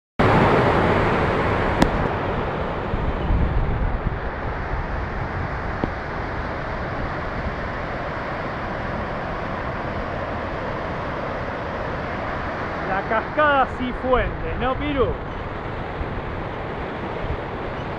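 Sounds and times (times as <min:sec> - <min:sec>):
wind rumble on microphone: 0:00.2 - 0:13.0, 0:13.8 - 0:17.9.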